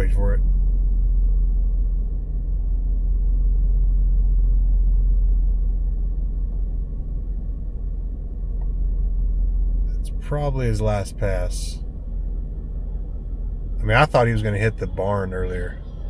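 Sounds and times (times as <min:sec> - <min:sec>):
airplane engine drone overhead: 0:00.0 - 0:16.0.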